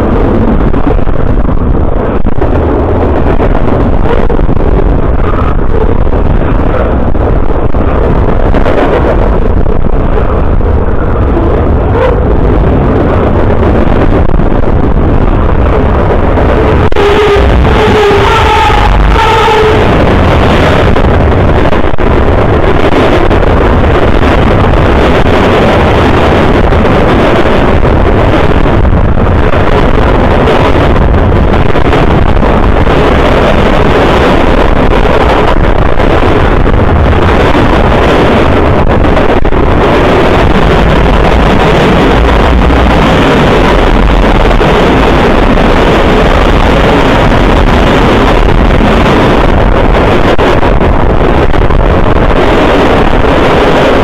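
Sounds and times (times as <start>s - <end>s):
freight train rumbling past: 0.0s - 54.0s
wind buffeting microphone: 0.0s - 54.0s.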